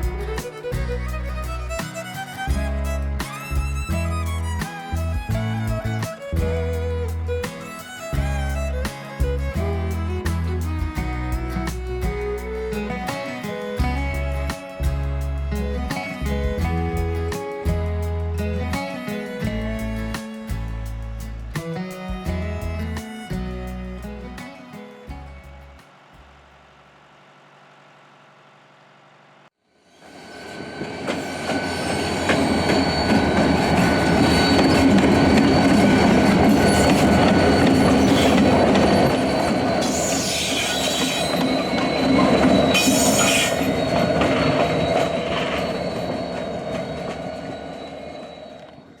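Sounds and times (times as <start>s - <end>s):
train wheels squealing: 0.0s - 21.0s, 30.0s - 49.0s
freight cars rolling: 0.0s - 21.6s, 30.0s - 49.0s.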